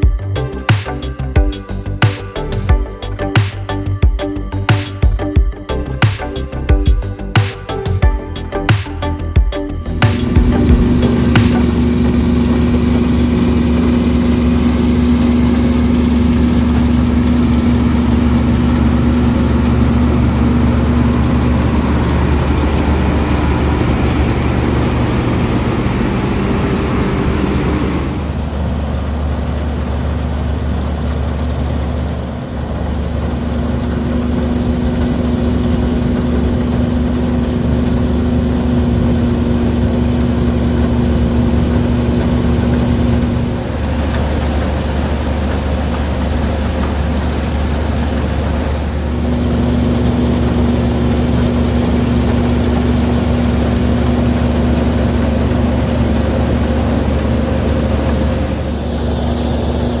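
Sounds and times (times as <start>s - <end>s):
diesel engine running: 0.0s - 60.0s
steady machine whine: 0.0s - 60.0s.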